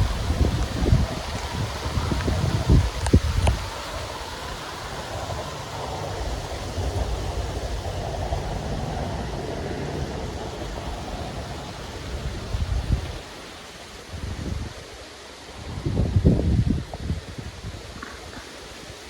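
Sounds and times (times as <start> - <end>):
rain hiss: 0.0 - 19.0
wind gusting: 0.0 - 19.0.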